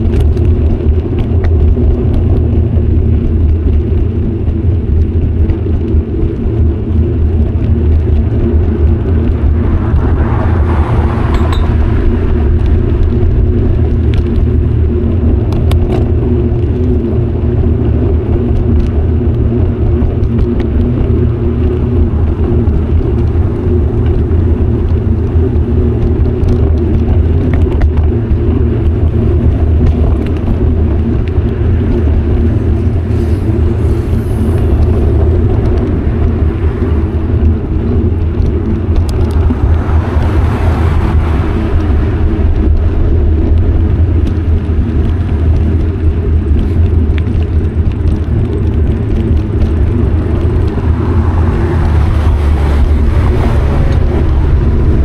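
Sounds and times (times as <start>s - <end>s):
tyre and road noise: 0.0s - 55.0s
wind buffeting microphone: 0.0s - 55.0s.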